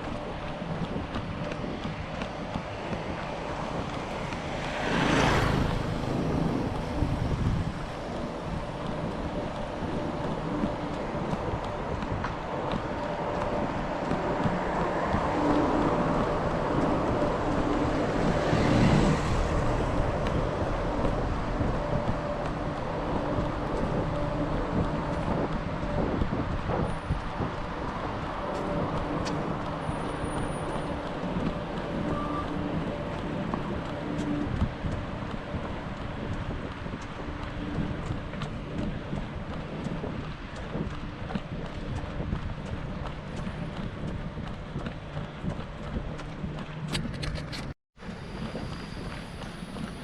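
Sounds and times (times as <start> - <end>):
road traffic: 0.0 - 50.0
wind buffeting microphone: 0.0 - 50.0.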